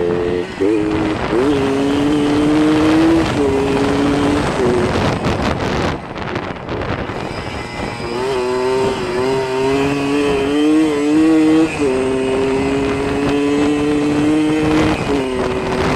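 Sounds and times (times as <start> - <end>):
dirt bike engine revving: 0.0 - 15.9
rough rushing noise: 0.0 - 15.9.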